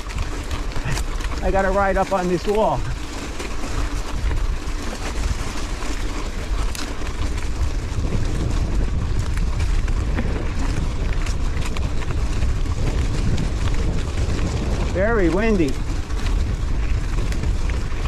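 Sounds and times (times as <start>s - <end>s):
bike clicks and rattles over rocks: 0.0s - 18.0s
wind buffeting microphone: 0.0s - 18.0s.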